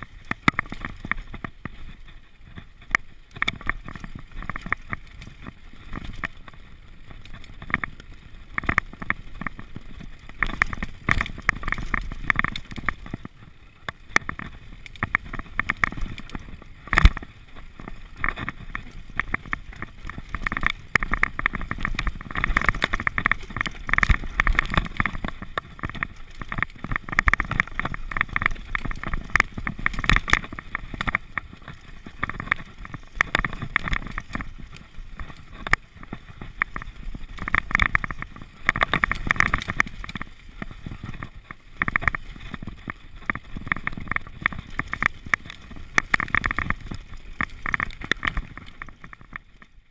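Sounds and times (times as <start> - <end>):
mountain bike rattling on trail: 0.0 - 49.9.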